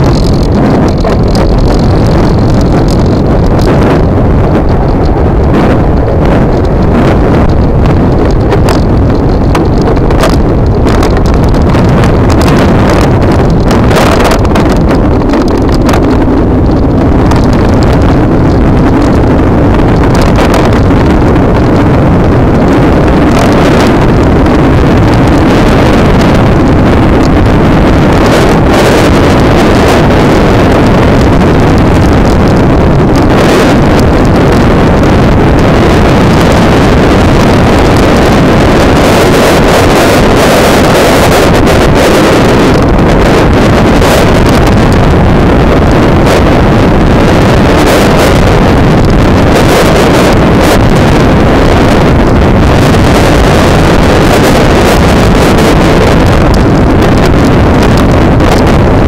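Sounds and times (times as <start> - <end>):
scooter road noise: 0.0 - 59.0
wind rushing on microphone: 0.0 - 59.0.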